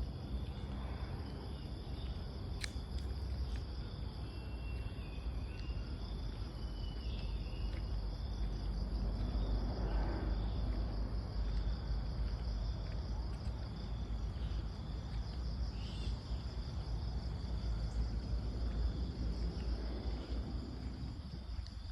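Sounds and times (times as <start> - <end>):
crickets and insects chirring: 0.0 - 21.9
low outdoor rumble: 0.0 - 21.9.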